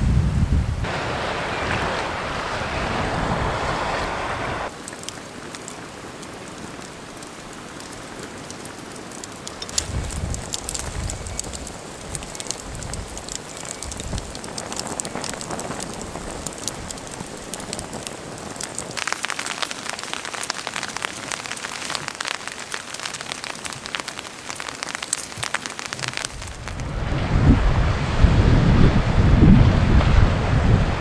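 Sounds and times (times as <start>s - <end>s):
rain pattering on a surface: 0.8s - 27.0s.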